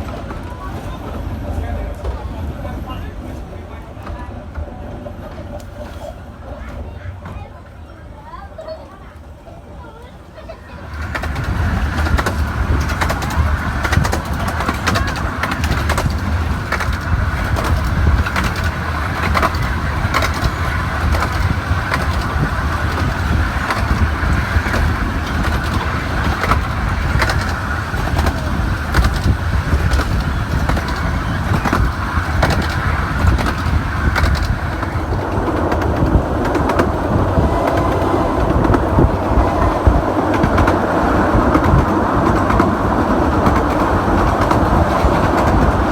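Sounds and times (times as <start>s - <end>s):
miniature train rumbling: 0.0s - 45.9s
wheels clicking on track: 0.0s - 45.9s.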